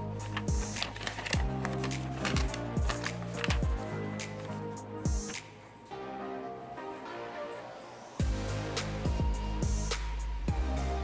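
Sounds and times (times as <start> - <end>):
electronic music with a beat: 0.0 - 7.6, 8.2 - 11.0.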